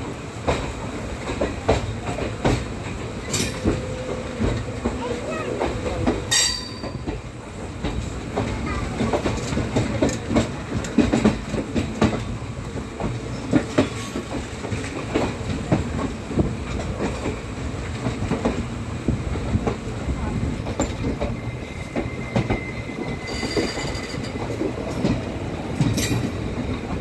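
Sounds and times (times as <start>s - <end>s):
train rumble: 0.0s - 27.0s
train wheels clicking over rail joints: 0.0s - 27.0s.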